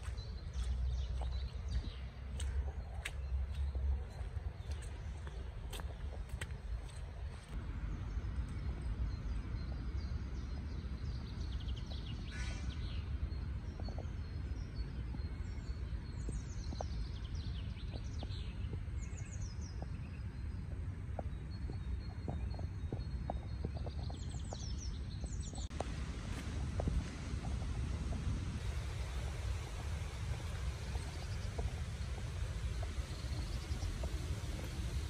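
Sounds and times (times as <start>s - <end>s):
birds chirping: 0.0s - 35.0s
low outdoor rumble: 0.0s - 35.0s.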